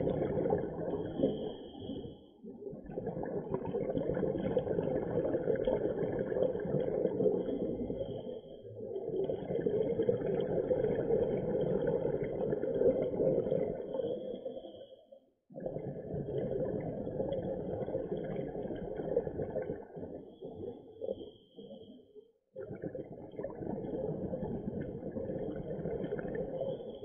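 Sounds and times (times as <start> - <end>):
underwater bubbles rumbling: 0.0 - 14.6, 15.5 - 21.7, 22.6 - 27.0.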